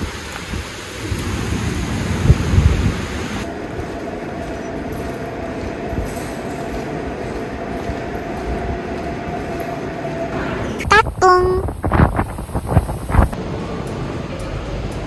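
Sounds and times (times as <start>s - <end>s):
storm rain and wind: 0.0s - 15.0s.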